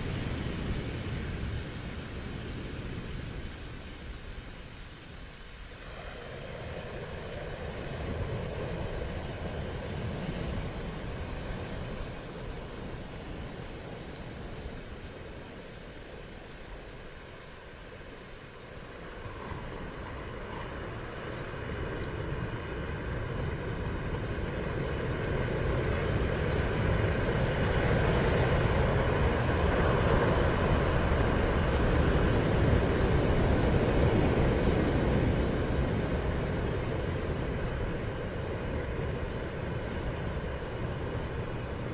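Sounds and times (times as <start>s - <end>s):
waves breaking on beach: 0.0s - 41.9s.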